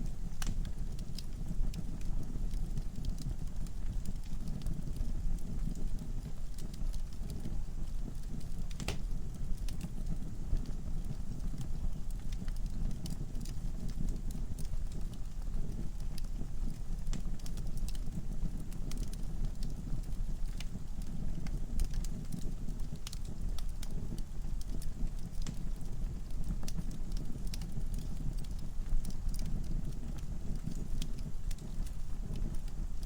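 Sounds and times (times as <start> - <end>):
fire flames rumbling: 0.0 - 33.0
logs crackling and popping: 0.0 - 33.0.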